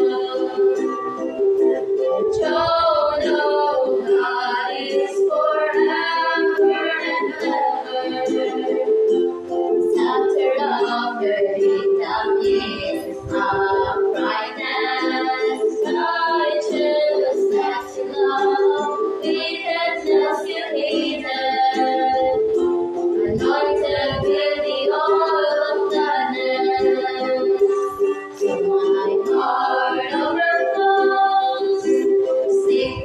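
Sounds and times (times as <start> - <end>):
girls singing a hymn: 0.0 - 33.0
strummed ukulele: 0.0 - 33.0.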